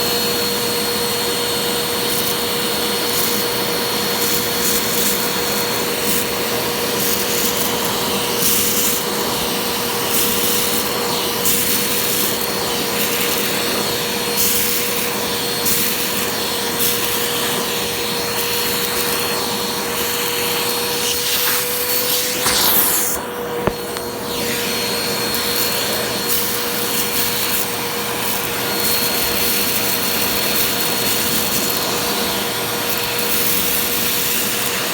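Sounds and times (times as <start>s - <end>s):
vacuum cleaner whining: 0.0s - 34.9s.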